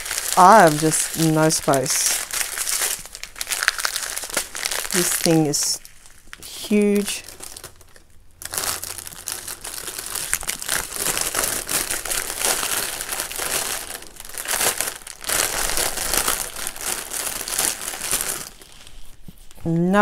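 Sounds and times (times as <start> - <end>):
plastic bags crinkling: 0.0 - 19.6.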